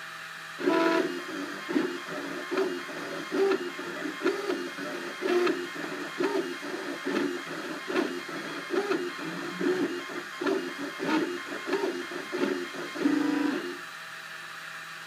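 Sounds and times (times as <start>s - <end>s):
stepper motors whining: 0.6s - 13.8s.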